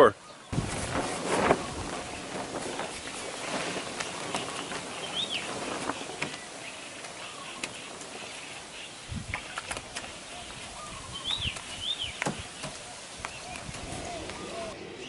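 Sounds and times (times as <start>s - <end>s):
birds calling with whistled notes: 0.0s - 15.0s
steady outdoor hiss: 0.0s - 15.0s.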